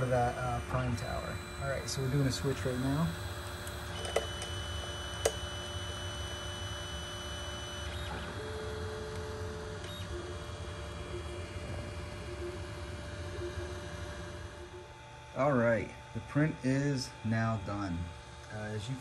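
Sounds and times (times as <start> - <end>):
fan hum: 0.0 - 19.0
thin whines: 0.0 - 19.0.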